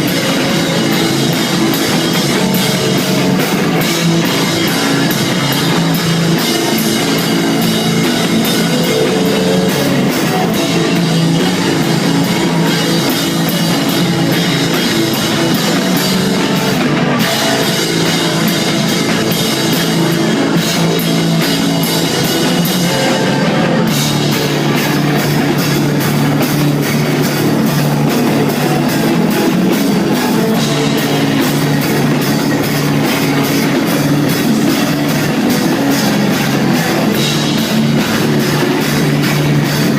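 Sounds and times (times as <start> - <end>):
bass guitar: 0.0 - 39.9
drum kit with cymbal hits: 0.0 - 39.9
electric guitar: 0.0 - 39.9.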